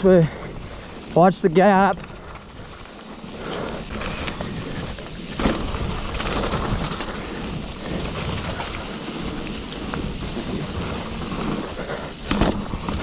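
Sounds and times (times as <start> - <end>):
bike rattling: 0.0 - 13.0
bike tyres on muddy ground: 0.0 - 13.0
wind on microphone: 2.0 - 13.0.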